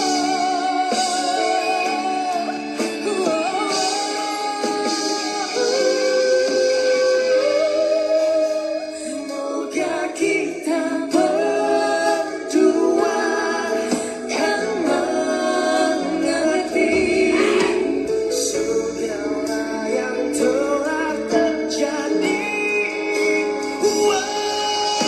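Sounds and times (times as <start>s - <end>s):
instrumental backing: 0.0s - 25.0s
person singing a ballad: 0.0s - 25.0s.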